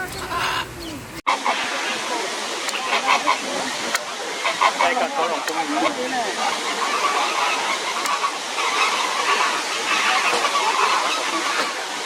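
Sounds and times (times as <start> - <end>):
waterfall rushing: 1.3 - 12.0.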